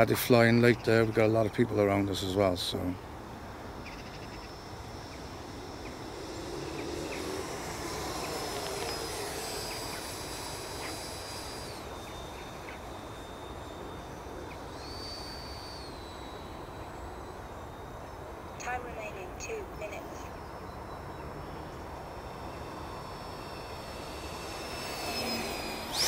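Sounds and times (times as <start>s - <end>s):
electric jet fan whining: 0.0s - 26.0s.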